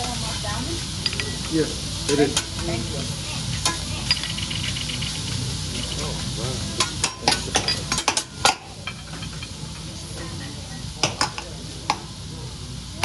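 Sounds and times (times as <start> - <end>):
seafood sizzling on a griddle: 0.0 - 13.0.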